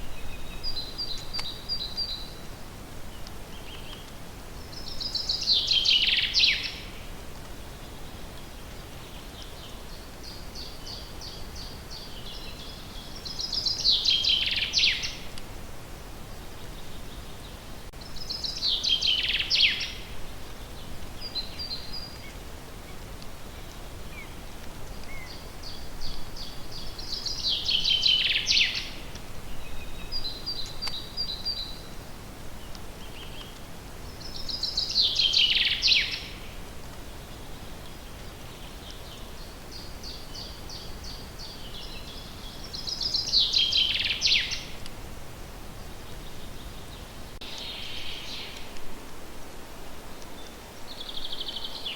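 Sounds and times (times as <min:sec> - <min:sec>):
songbird singing: 0:00.0 - 0:15.4, 0:16.3 - 0:45.0, 0:45.6 - 0:49.0, 0:50.0 - 0:51.9
outdoor background hiss: 0:00.0 - 0:51.9.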